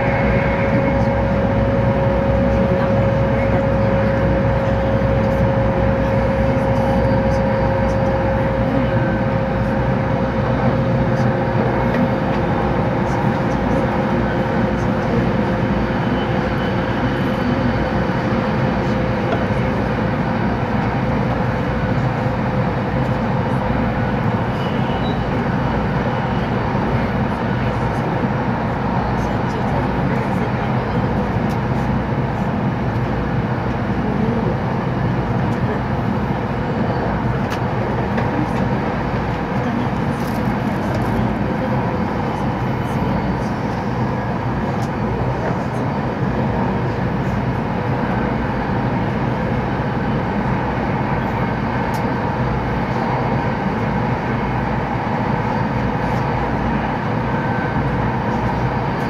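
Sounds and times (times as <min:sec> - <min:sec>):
train running at speed: 0:00.0 - 0:59.0.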